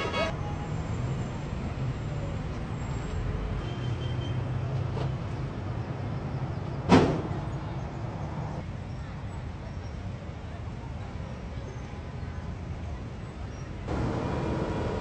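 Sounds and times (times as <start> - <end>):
rumble of traffic engines: 0.0 - 15.0.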